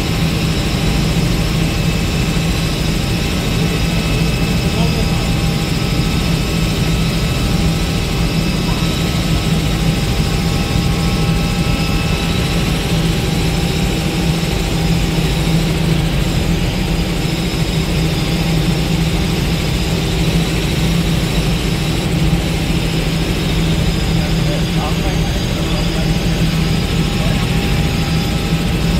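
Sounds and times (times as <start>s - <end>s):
helicopter engine and rotors droning: 0.0s - 28.9s.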